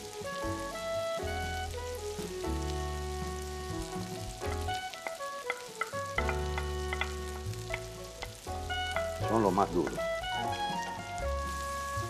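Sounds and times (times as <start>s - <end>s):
squid sizzling in a pan: 0.0s - 12.0s.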